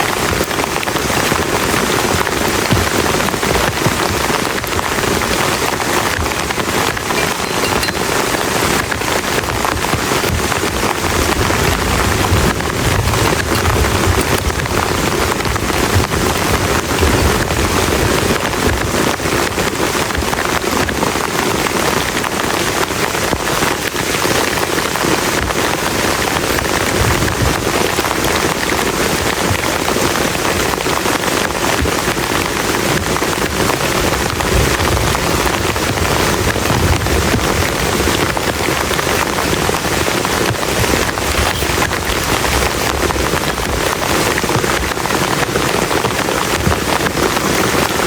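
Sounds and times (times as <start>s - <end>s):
heavy rain on a shelter: 0.0s - 48.0s.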